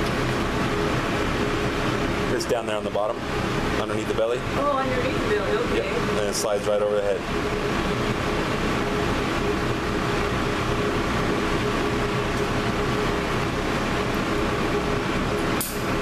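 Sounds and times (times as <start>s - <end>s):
constant hum: 0.0s - 16.0s
vehicle drone from inside: 0.0s - 16.0s.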